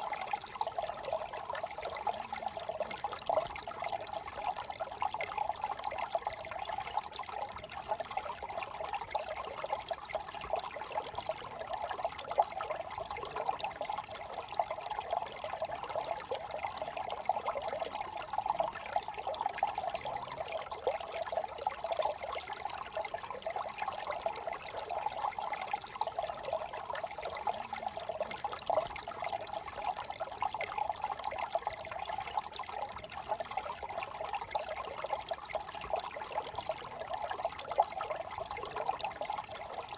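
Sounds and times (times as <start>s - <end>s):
brook burbling over stones: 0.0s - 39.9s.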